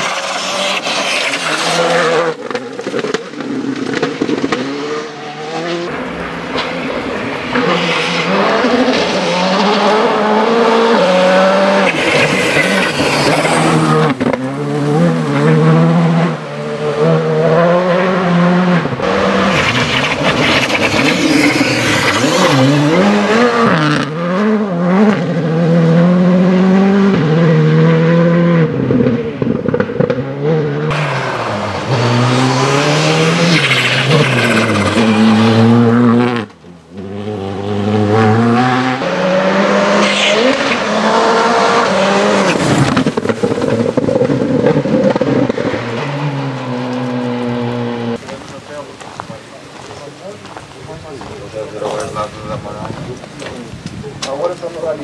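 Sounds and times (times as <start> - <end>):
rally car engine revving: 0.0 - 49.0.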